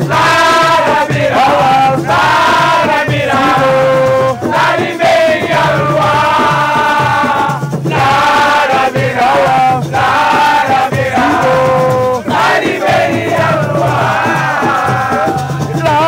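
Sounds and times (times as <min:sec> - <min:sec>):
loud chanted singing: 0:00.0 - 0:16.0.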